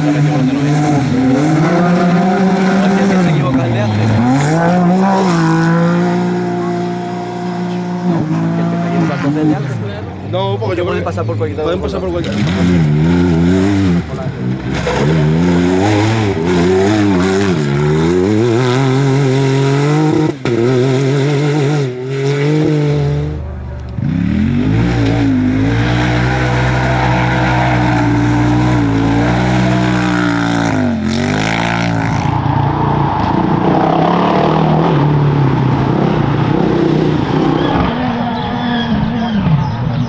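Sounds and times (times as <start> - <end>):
buggy engines revving: 0.0 - 40.0.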